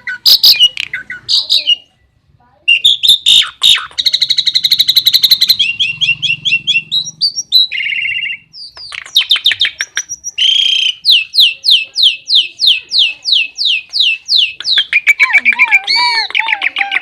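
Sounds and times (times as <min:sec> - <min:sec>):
starling singing: 0:00.0 - 0:17.0.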